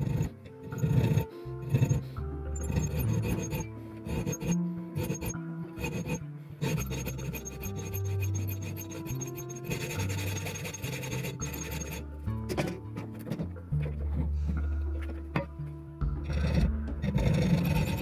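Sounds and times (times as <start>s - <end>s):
hacksaw cutting steel: 0.0s - 13.5s, 16.3s - 18.0s.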